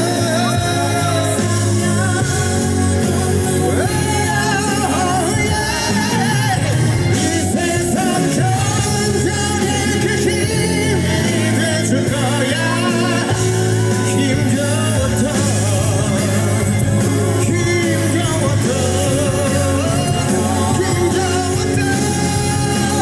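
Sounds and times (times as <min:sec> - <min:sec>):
band accompaniment: 0:00.0 - 0:23.0
bass notes: 0:00.0 - 0:23.0
man singing rock ballad: 0:00.0 - 0:23.0.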